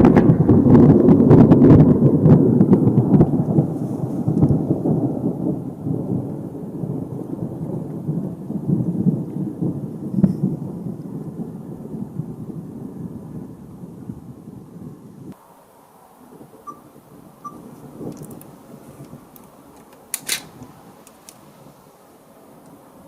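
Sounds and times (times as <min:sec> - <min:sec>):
thunder rumbling and crackling: 0:00.0 - 0:23.0.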